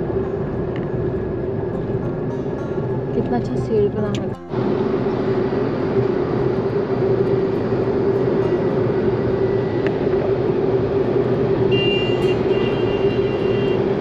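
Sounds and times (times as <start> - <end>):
car engine and tyre drone: 0.0 - 14.0
constant hum: 0.0 - 14.0.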